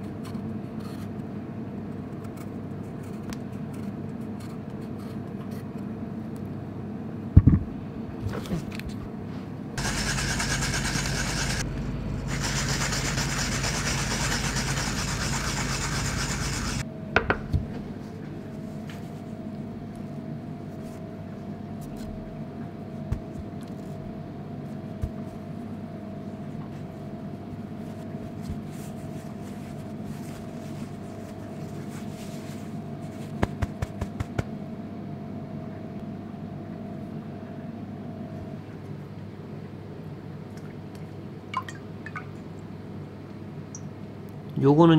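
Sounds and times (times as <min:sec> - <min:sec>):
steady hum: 0:06.0 - 0:44.8.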